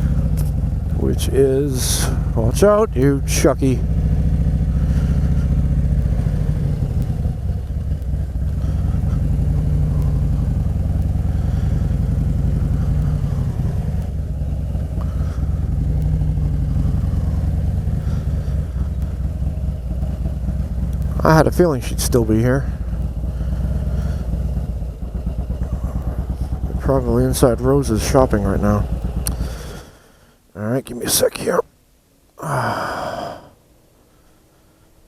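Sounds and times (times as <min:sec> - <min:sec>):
motorcycle engine running: 0:00.0 - 0:30.4.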